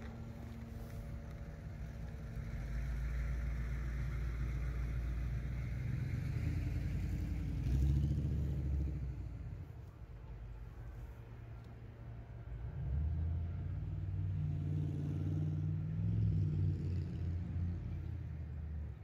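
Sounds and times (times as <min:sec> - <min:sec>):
faint tram whine: 0:00.0 - 0:19.0.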